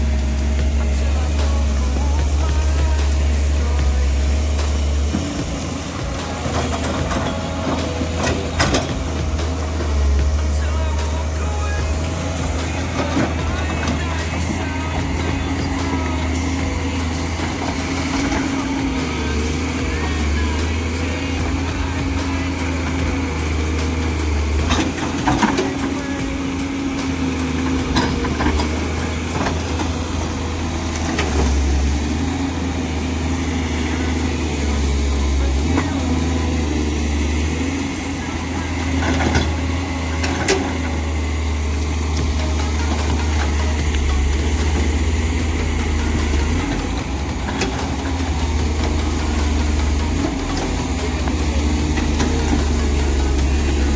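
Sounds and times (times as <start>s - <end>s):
digging knocks and clatter: 0.0s - 53.9s
excavator diesel engine running: 0.0s - 53.9s.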